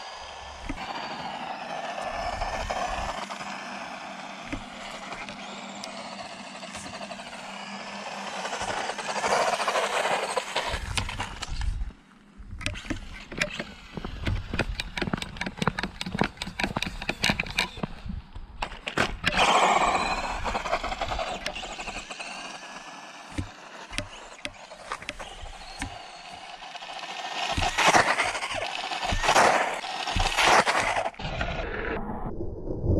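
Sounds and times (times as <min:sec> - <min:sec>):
rc car motor whining: 0:00.0 - 0:11.9, 0:12.6 - 0:18.0, 0:18.9 - 0:31.9.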